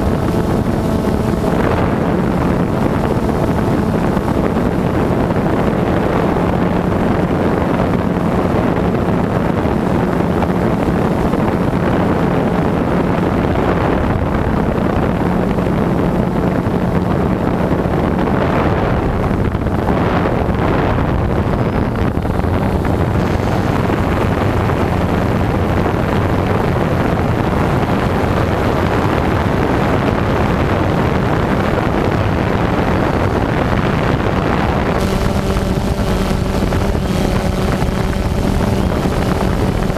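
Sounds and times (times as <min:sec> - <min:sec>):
drone propellers buzzing hum: 0:00.0 - 0:39.9
wind rushing over microphone: 0:00.0 - 0:39.9.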